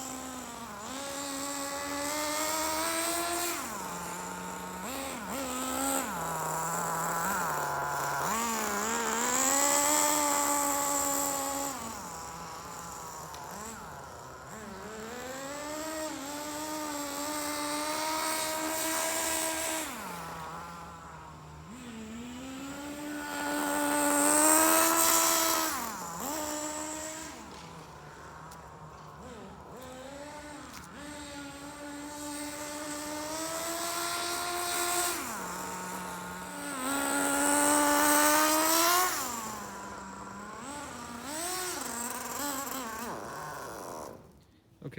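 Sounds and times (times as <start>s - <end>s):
small two-stroke engine revving: 0.0s - 44.9s.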